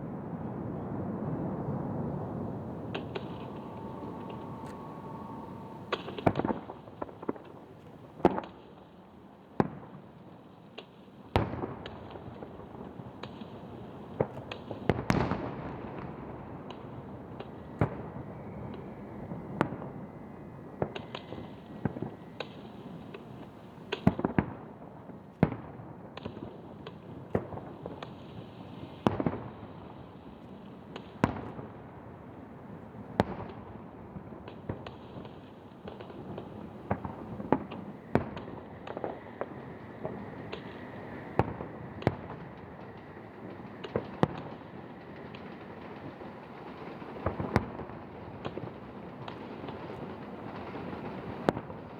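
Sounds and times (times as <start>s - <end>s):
fireworks bangs with echo: 0.0s - 8.8s, 11.4s - 30.2s, 33.0s - 51.9s
rumble of fireworks bursts: 0.0s - 8.8s, 11.4s - 51.9s.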